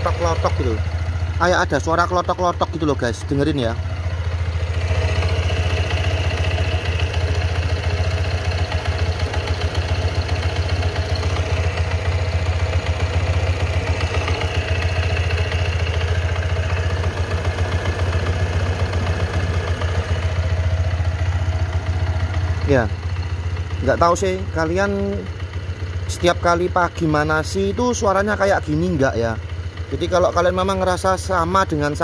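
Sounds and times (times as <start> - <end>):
scooter engine idling roughly: 0.0 - 32.0.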